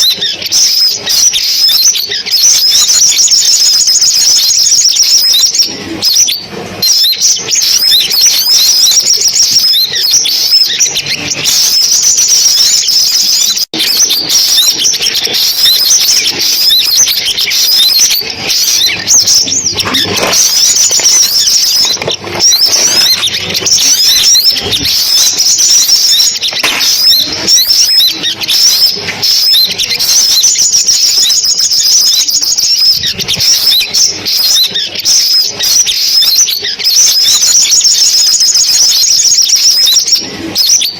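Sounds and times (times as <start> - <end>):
sunbird chirps and twitters: 0.0 - 40.9.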